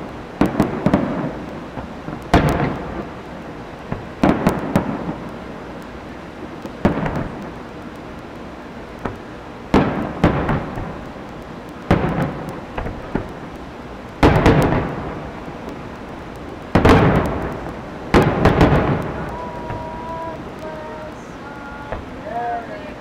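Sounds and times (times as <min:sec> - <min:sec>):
fireworks booming with echo: 0:00.0 - 0:23.0.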